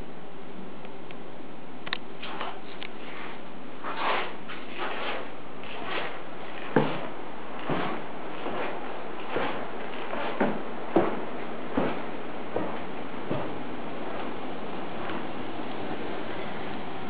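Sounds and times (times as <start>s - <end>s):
slow footsteps on a floor: 2.2s - 15.9s.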